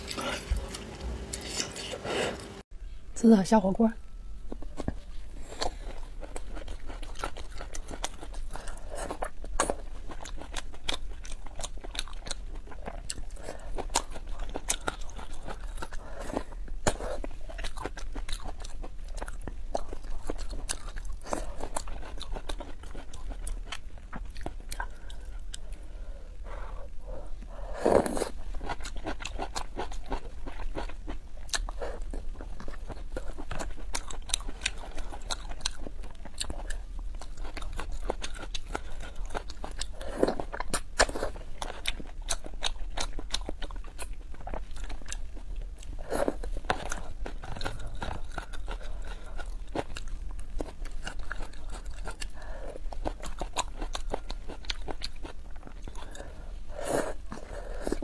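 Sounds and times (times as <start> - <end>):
wet chewing with mouth clicks: 0.0 - 2.6, 4.4 - 25.8, 26.4 - 58.0.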